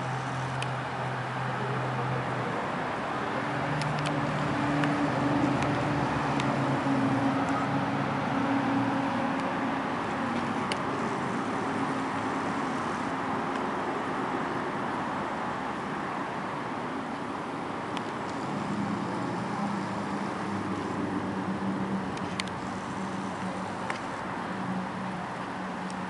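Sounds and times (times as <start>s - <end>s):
low engine hum: 0.0s - 26.0s
road traffic noise: 0.0s - 26.0s.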